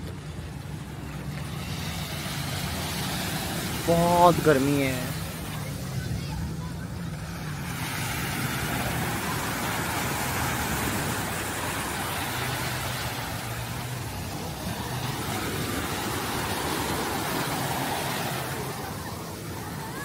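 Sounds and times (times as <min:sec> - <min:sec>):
sea waves breaking on shore: 0:00.0 - 0:20.0.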